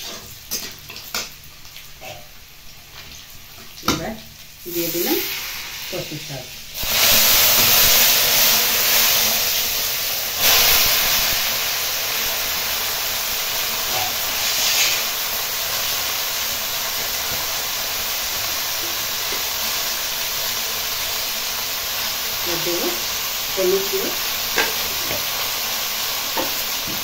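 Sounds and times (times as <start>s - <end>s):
leaves sizzling in hot oil: 0.0s - 27.0s.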